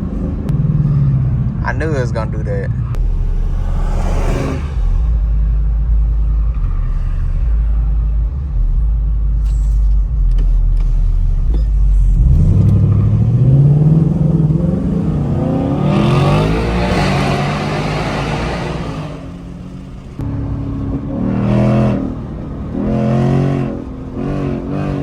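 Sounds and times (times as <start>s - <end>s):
car engine and exhaust accelerating: 0.0s - 25.0s.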